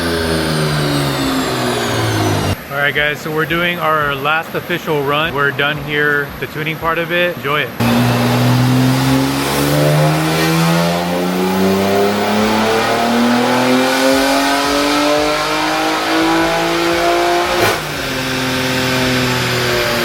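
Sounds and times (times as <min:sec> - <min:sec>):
car engine revving at full throttle: 0:00.0 - 0:06.9, 0:07.7 - 0:20.0.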